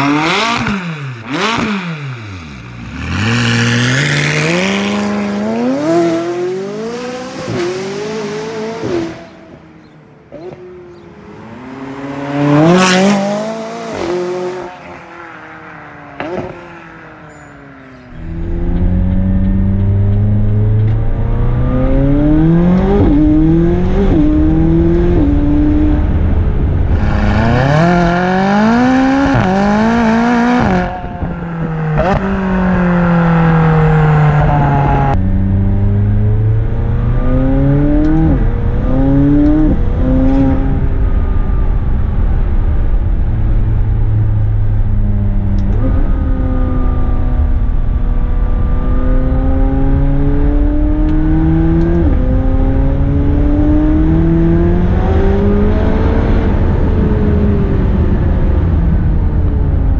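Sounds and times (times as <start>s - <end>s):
sports car engine revving: 0.0s - 41.0s, 44.0s - 58.6s.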